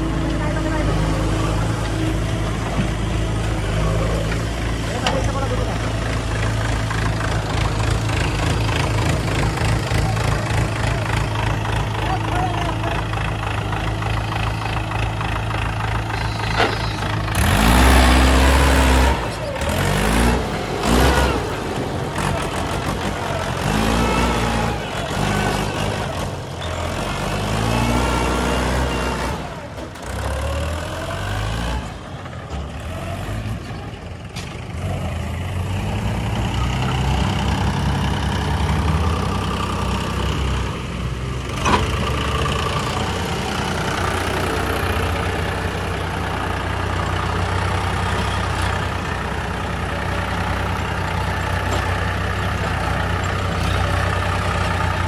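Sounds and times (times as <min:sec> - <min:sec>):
diesel tractor engines revving: 0:00.0 - 0:55.0.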